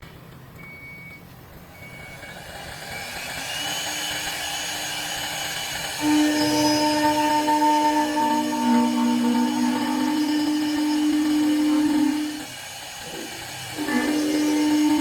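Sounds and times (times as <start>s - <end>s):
lathe motors whining: 1.5s - 15.0s.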